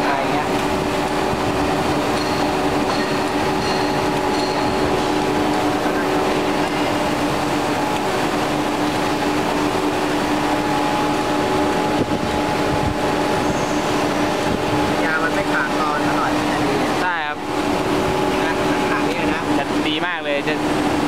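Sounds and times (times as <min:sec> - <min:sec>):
production line machine drone: 0:00.0 - 0:21.0.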